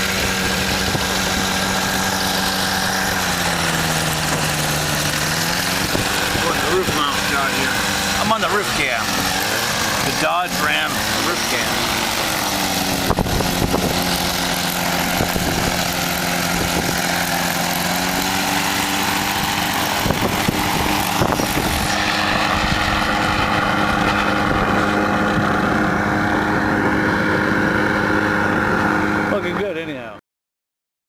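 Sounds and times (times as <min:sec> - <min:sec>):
wind on microphone: 0:00.0 - 0:08.2, 0:10.9 - 0:29.2
engine running: 0:00.0 - 0:30.2.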